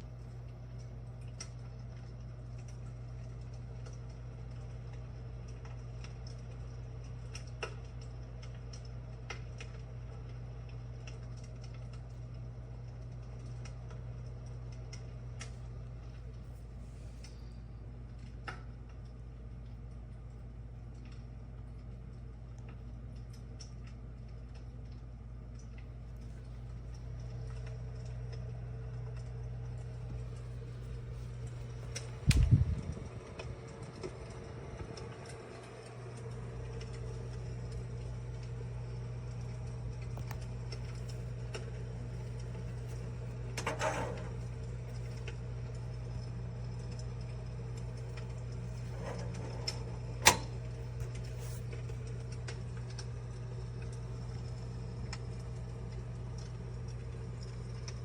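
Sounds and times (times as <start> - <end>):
heater fan humming: 0.0 - 58.0.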